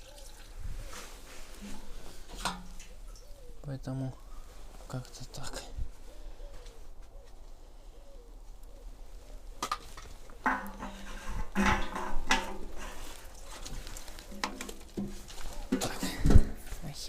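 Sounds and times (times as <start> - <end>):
bird cooing: 0.0 - 4.7, 5.3 - 16.5.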